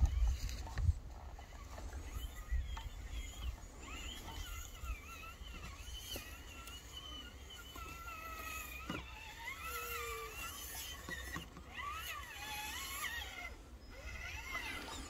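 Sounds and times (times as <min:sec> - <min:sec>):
electric motor and gearbox whining: 0:00.0 - 0:15.0.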